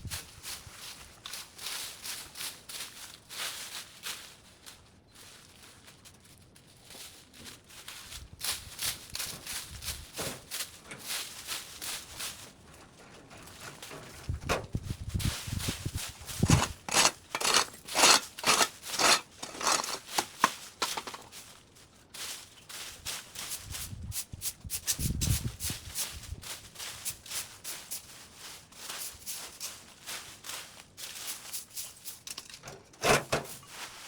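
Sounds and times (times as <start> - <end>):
brush rustling and crackling: 0.0 - 34.0.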